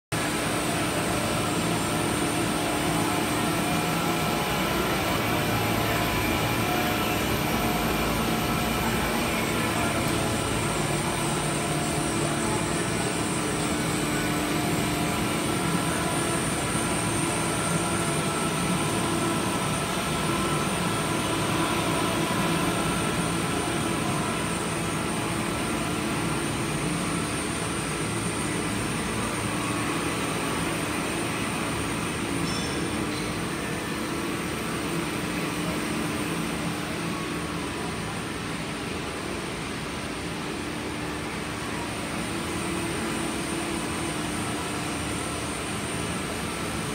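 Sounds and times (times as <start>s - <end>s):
constant machine tones: 0.2s - 46.9s
industrial machines droning: 0.2s - 46.9s.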